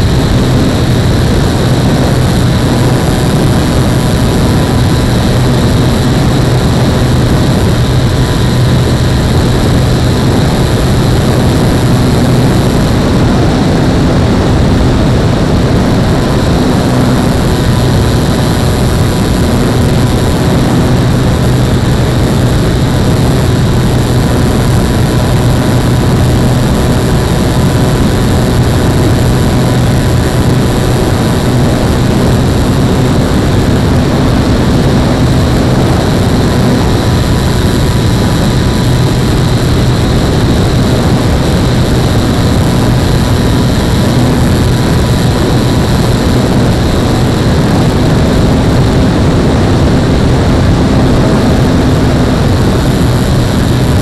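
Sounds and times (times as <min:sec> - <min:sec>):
rush of air noise: 0:00.0 - 0:54.0.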